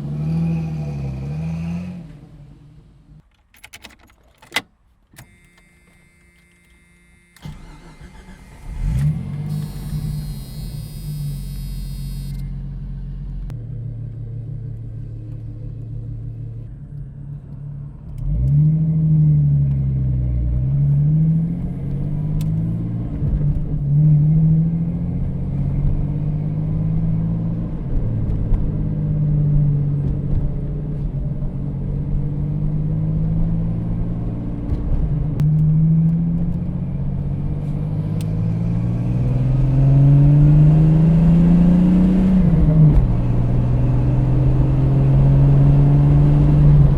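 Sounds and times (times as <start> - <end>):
car engine idling and driving off: 0.0 - 3.5, 5.2 - 46.9.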